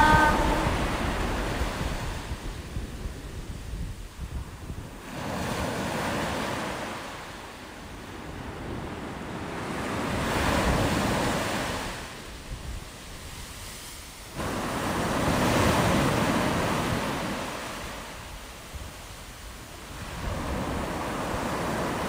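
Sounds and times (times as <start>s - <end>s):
surf washing up a beach: 0.0s - 22.0s
wind buffeting microphone: 0.0s - 22.0s.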